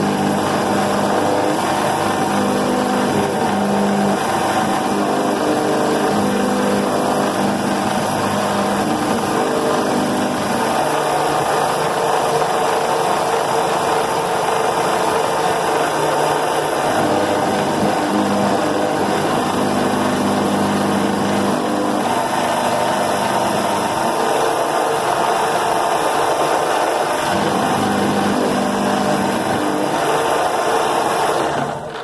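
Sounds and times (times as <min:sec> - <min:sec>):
metal cutting noise: 0:00.0 - 0:32.0
milling spindle high whine: 0:00.0 - 0:32.0.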